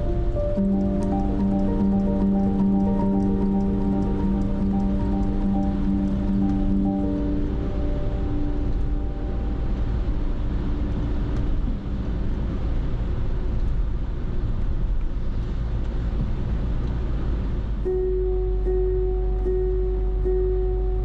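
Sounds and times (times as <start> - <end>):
soft held music tones: 0.0 - 13.8, 17.8 - 21.0.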